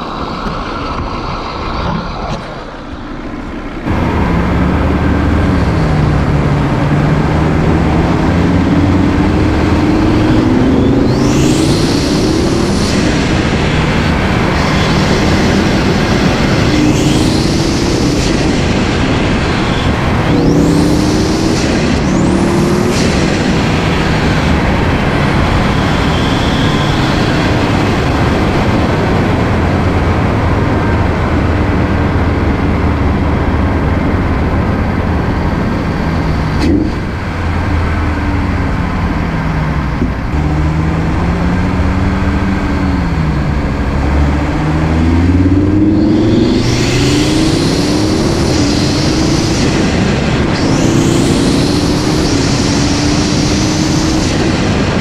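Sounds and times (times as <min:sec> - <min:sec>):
car engine revving: 0:00.0 - 0:55.0
wind and road noise: 0:00.0 - 0:55.0.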